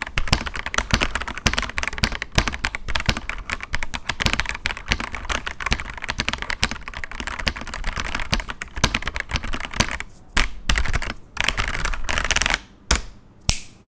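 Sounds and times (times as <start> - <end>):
mechanical keyboard typing: 0.0 - 12.6.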